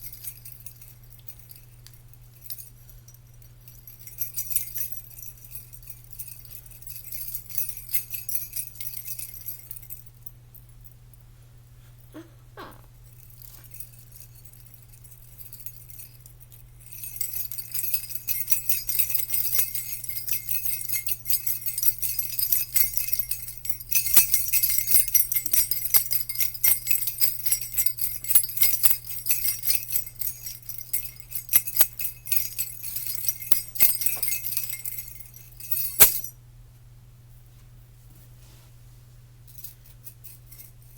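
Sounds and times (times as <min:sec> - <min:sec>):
jingle bells shaken: 0:00.0 - 0:11.0, 0:13.0 - 0:36.4, 0:39.5 - 0:40.9.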